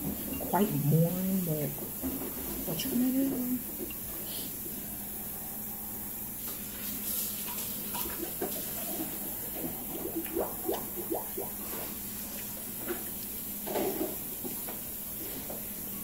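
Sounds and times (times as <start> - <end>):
faint hiss and low hum: 0.0 - 16.0.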